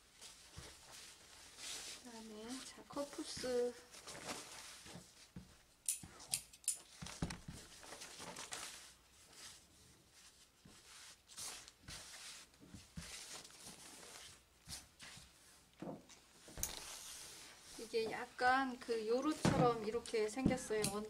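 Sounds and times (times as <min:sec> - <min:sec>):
fabric rustling: 0:00.0 - 0:06.2, 0:06.8 - 0:21.0.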